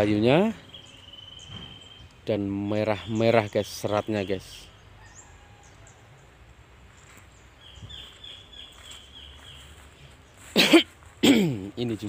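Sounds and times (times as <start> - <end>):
bird chirping: 0.0 - 10.5
open-air background hum: 0.0 - 12.0.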